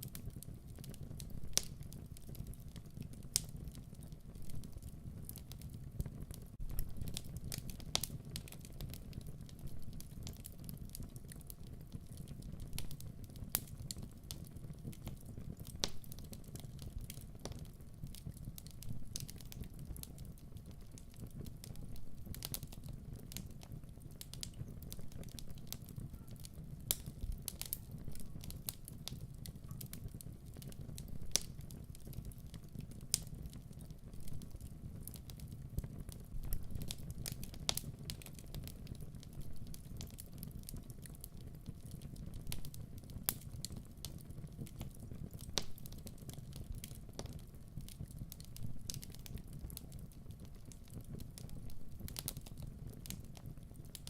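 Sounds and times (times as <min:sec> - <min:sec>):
fire crackling and popping: 0:00.0 - 0:54.0
rumble of flames: 0:00.0 - 0:54.0.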